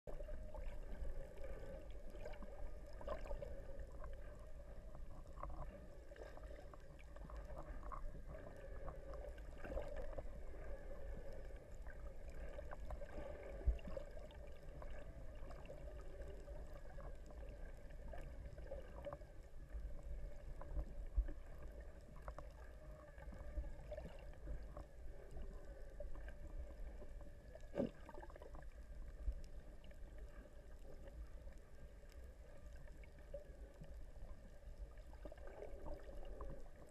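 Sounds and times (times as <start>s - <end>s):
faint underwater clicks and knocks: 0.0s - 36.9s
muffled underwater rumble: 0.0s - 36.9s.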